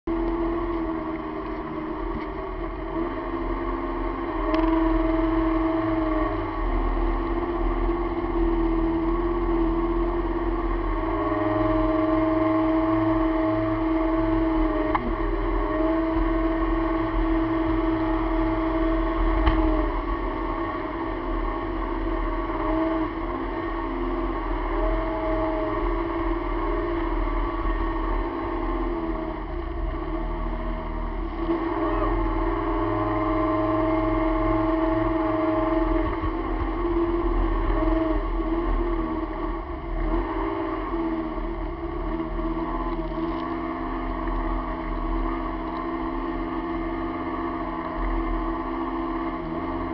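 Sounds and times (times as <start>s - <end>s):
personal watercraft engine revving: 0.1s - 49.9s.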